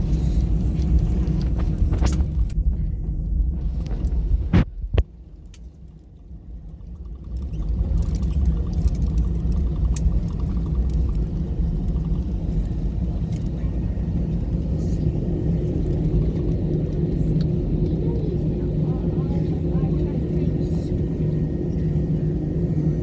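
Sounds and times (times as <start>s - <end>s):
jet engines droning in cabin: 0.0s - 23.0s.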